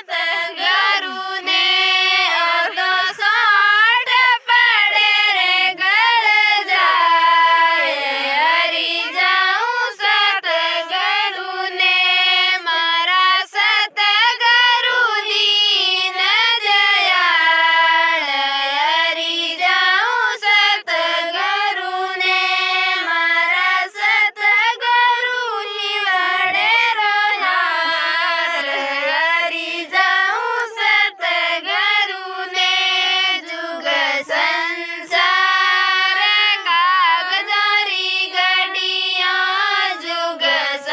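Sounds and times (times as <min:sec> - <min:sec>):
woman singing devotional song: 0:00.0 - 0:40.9.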